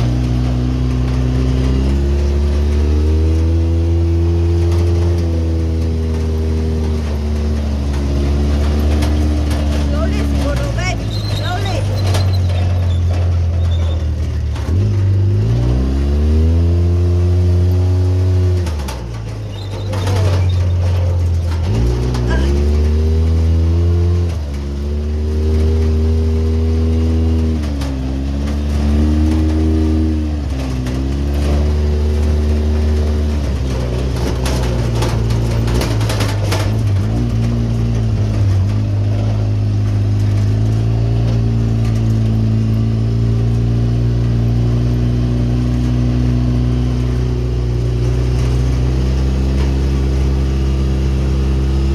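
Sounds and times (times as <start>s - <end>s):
vehicle engine accelerating: 0.0s - 51.9s.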